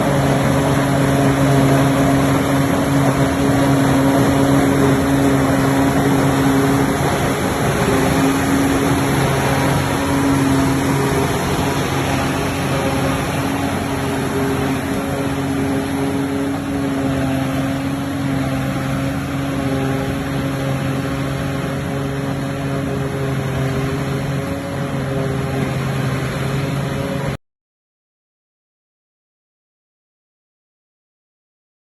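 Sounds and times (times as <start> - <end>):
harvester diesel engine running: 0.0 - 27.4.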